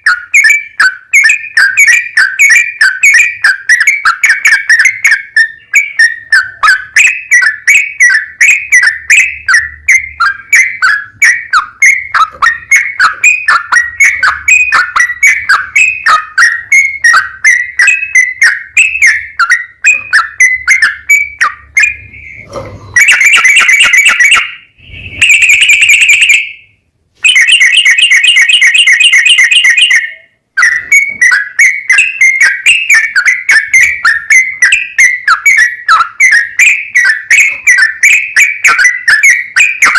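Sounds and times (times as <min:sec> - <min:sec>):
buzzy bird chattering: 0:00.0 - 0:24.6, 0:27.3 - 0:39.9
bird song whistled notes: 0:00.0 - 0:39.9.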